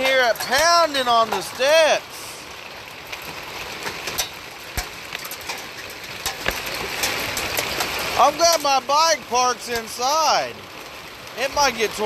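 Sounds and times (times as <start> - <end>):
hail hissing on pavement: 0.0 - 12.0
hailstones clacking on metal: 0.0 - 12.0.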